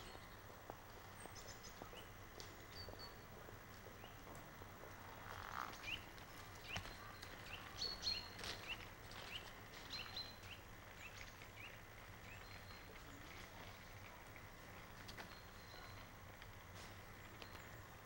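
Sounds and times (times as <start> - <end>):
faint outdoor hiss: 0.0 - 18.0
small birds chirping: 0.0 - 18.0.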